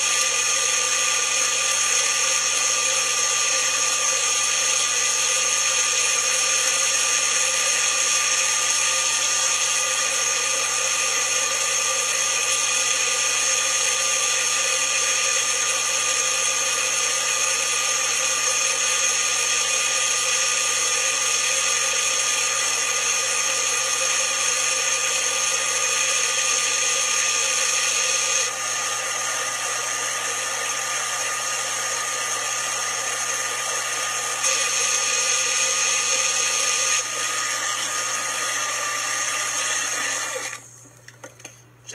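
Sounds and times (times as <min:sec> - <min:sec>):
blender grinding: 0:00.0 - 0:41.5.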